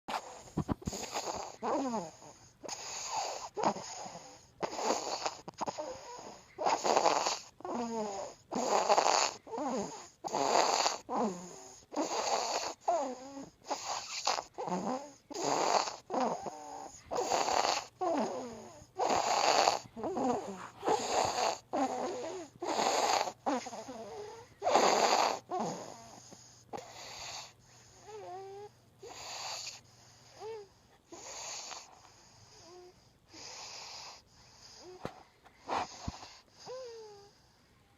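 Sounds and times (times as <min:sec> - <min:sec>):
baby snoring: 0:00.1 - 0:37.5.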